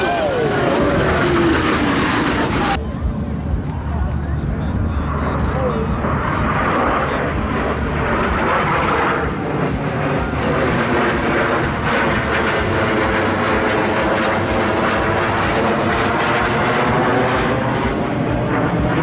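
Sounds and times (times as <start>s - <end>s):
aircraft engines roaring: 0.0s - 19.0s.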